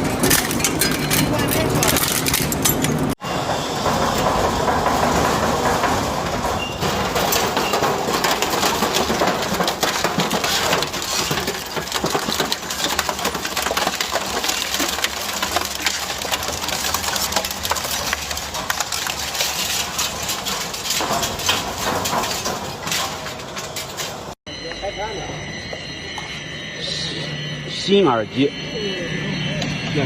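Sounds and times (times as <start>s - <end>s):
metal shredder grinding and crunching: 0.0s - 24.4s.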